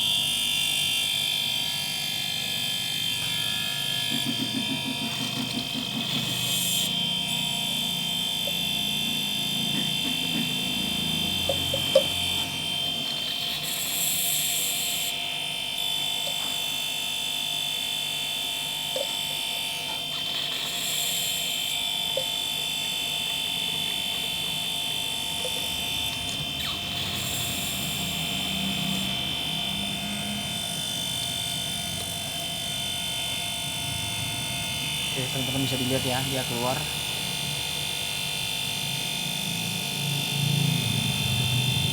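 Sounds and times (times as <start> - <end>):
refrigerator compressor whining: 0.0 - 41.9.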